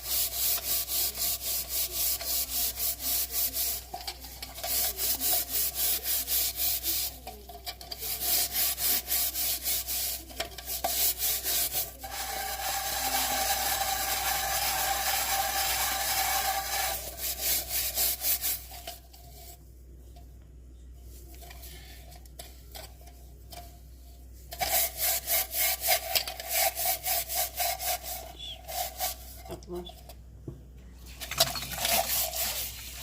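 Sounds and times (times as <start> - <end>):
rubbing strokes on hard surface: 0.0 - 19.7, 21.1 - 30.1, 31.6 - 33.0.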